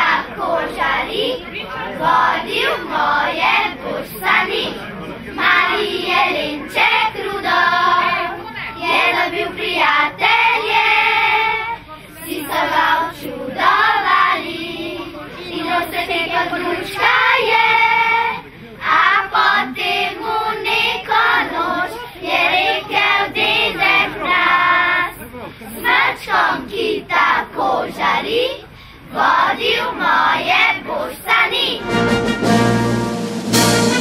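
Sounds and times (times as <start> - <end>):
young children singing: 0.0 - 31.9.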